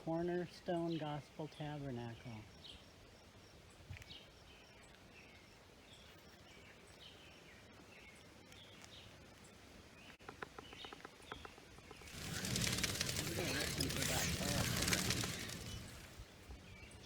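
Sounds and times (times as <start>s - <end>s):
bird chirping: 0.0s - 17.0s
outdoor background hiss: 0.0s - 17.0s.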